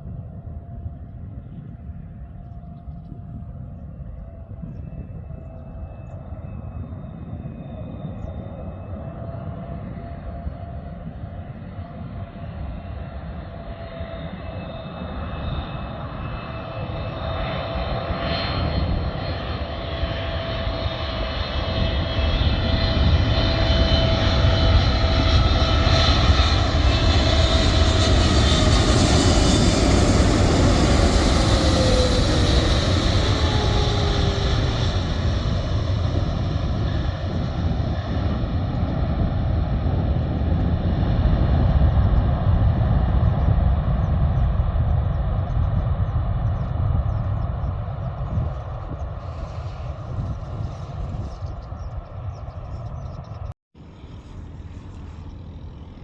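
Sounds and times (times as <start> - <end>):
airliner engines passing: 0.0 - 56.0
jet engine whine: 0.0 - 56.0.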